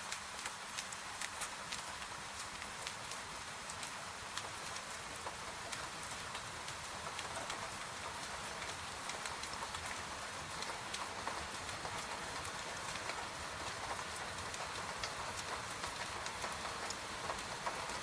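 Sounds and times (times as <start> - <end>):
gentle rain falling: 0.0 - 18.0
raindrops ticking: 0.0 - 18.0.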